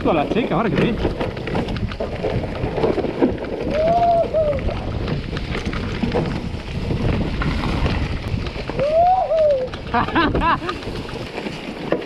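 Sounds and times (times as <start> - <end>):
wind buffeting microphone: 0.0 - 11.5
mountain bike rattling and knocking: 0.0 - 12.0.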